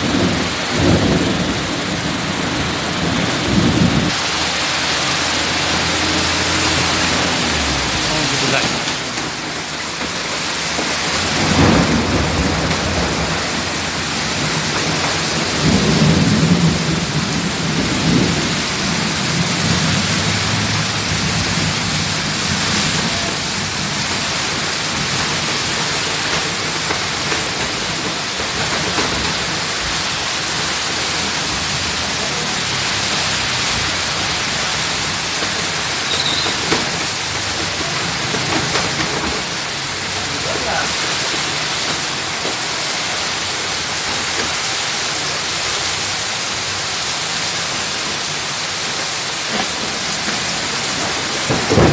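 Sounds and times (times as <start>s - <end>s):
thunder rumbling: 0.0s - 44.6s, 49.4s - 51.9s
heavy rain pouring: 0.0s - 51.9s.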